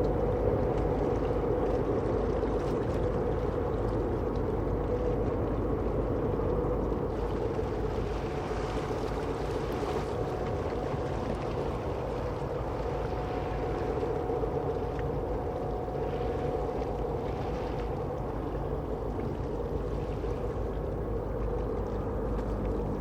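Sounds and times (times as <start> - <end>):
faint held hum: 0.0 - 23.0
low rumble: 0.0 - 23.0
ship engine drone: 0.0 - 23.0.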